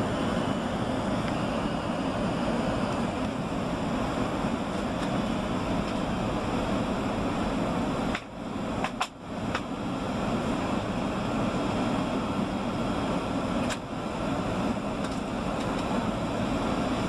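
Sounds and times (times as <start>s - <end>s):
airliner cabin roar: 0.0s - 17.0s.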